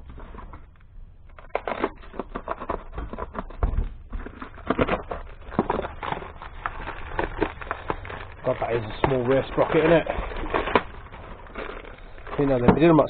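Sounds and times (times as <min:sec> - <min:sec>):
packaging rustling as torn open: 0:00.0 - 0:13.0.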